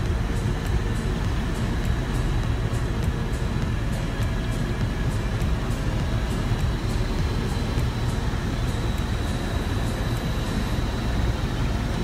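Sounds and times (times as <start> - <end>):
helicopter engine and rotor drone: 0.0 - 12.0
high whine: 0.0 - 12.0.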